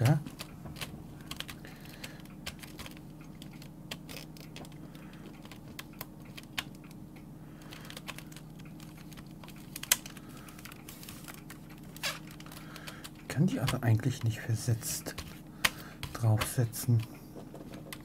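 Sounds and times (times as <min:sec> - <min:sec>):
fingers clicking plastic membrane: 0:00.0 - 0:07.0, 0:07.6 - 0:18.0
steady low hum: 0:00.0 - 0:18.0.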